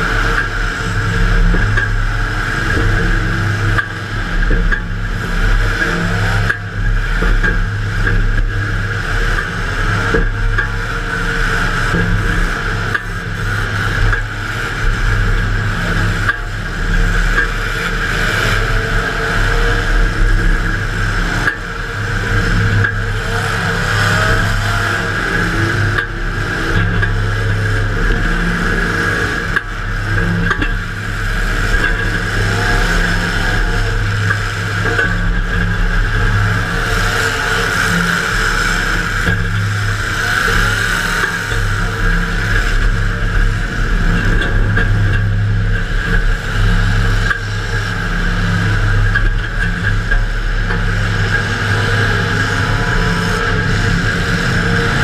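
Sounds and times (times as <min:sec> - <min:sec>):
car engine running loud: 0:00.0 - 0:55.0.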